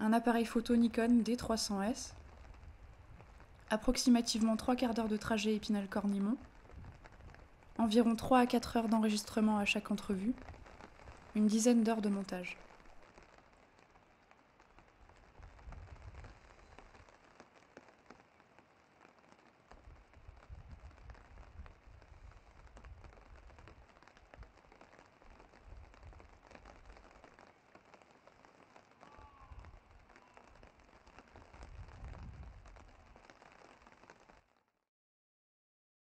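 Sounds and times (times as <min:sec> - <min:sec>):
light rain pattering: 0:00.0 - 0:34.8.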